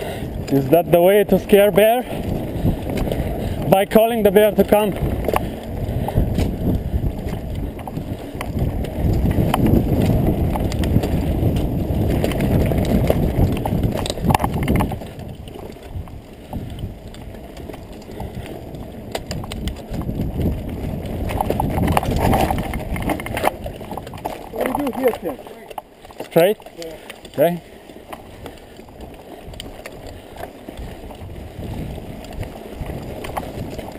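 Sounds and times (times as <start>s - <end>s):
bike rattles and knocks: 0.0s - 33.9s
bike tyres rumbling on dirt: 0.0s - 33.9s.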